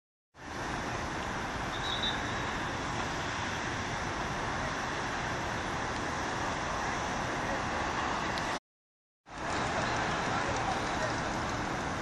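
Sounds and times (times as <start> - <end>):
wind: 0.3 - 8.6, 9.2 - 12.0
road traffic: 0.4 - 8.6, 9.3 - 12.0.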